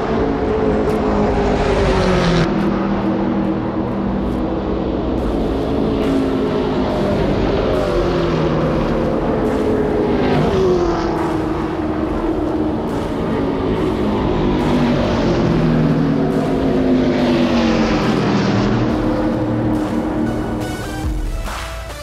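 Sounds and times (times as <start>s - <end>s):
race cars passing: 0.0s - 22.0s.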